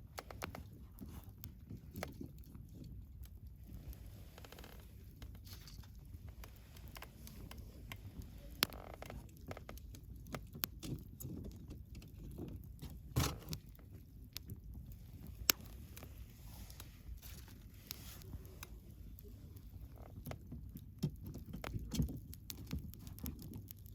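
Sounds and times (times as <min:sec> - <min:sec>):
fire crackles and pops: 0:00.0 - 0:23.9
wood fire rumble: 0:00.0 - 0:23.9.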